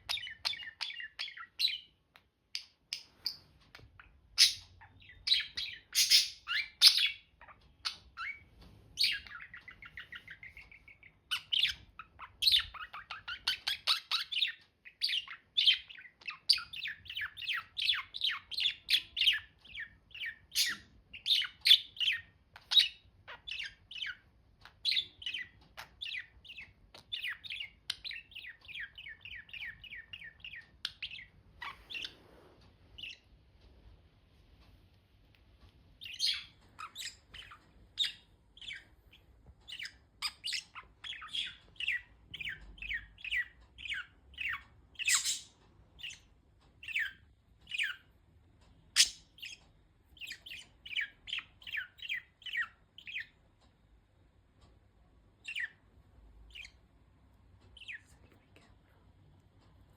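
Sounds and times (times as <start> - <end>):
budgerigars chirping: 0.0 - 33.4, 36.0 - 48.1, 48.8 - 53.5, 55.4 - 55.8, 56.4 - 56.8, 57.7 - 58.1.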